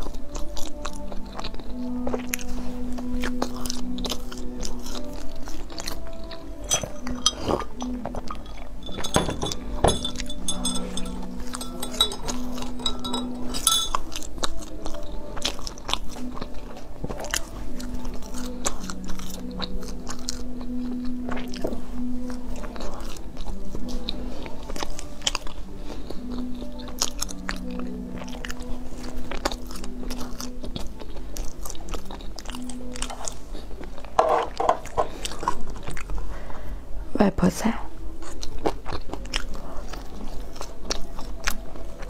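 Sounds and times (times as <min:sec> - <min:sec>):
person chewing bread: 0:00.0 - 0:08.8, 0:13.9 - 0:36.4, 0:38.0 - 0:42.0
soft background music: 0:00.0 - 0:42.0.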